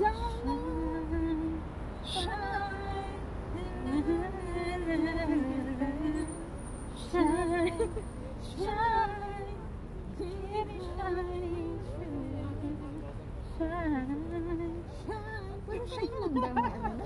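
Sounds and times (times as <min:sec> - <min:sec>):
street traffic rumble: 0:00.0 - 0:17.0
women singing: 0:00.0 - 0:17.0.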